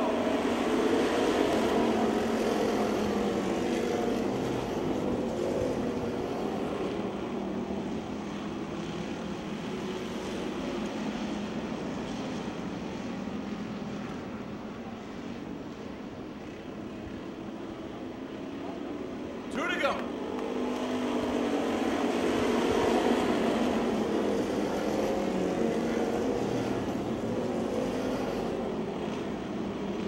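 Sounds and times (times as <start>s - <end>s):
racing car engines at full throttle: 0.0s - 30.0s.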